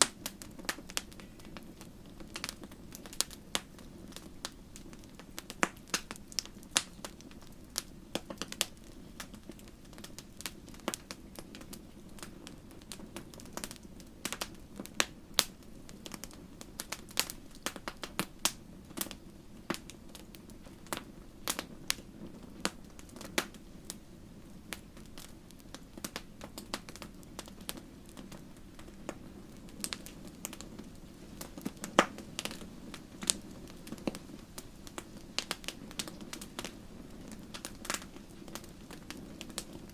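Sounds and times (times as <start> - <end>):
low rush of burning: 0.0 - 39.9
wood fire crackling and popping: 0.0 - 39.9.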